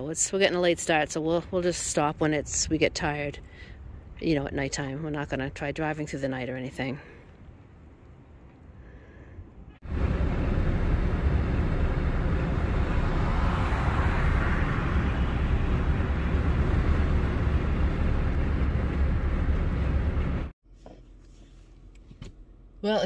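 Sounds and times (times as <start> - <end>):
road and tyre noise in car: 0.0 - 23.0.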